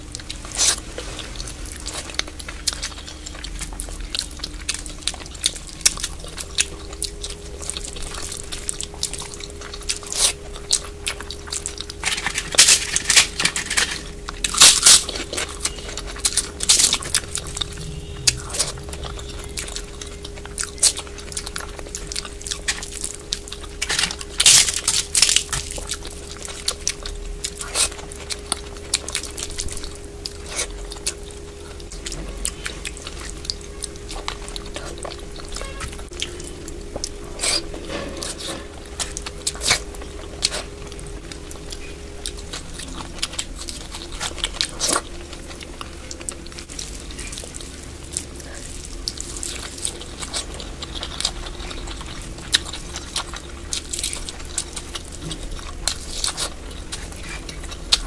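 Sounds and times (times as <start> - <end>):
crisp crunches: 0.0 - 58.0
faint steady hum: 0.0 - 58.0
person chewing and biting: 0.0 - 58.0.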